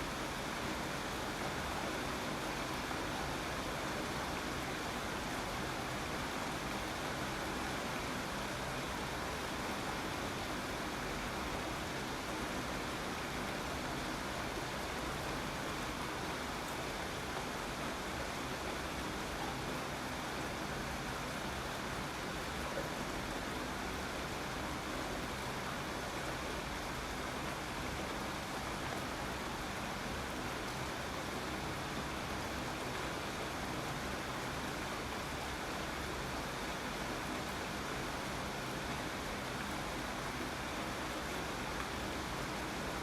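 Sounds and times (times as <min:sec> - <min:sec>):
steady rainfall: 0:00.0 - 0:43.0.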